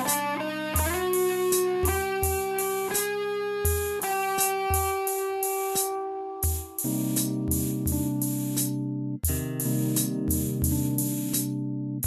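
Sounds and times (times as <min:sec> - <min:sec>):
electric guitar lead notes: 0:00.0 - 0:11.0
drum beat: 0:00.0 - 0:11.5.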